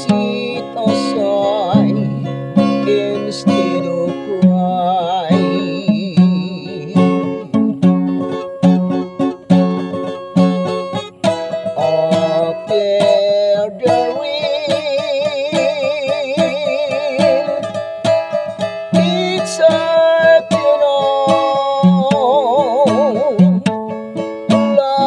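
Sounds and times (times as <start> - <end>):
man singing: 0.0 - 7.9, 10.9 - 25.0
acoustic guitar picked and strummed: 0.0 - 25.0.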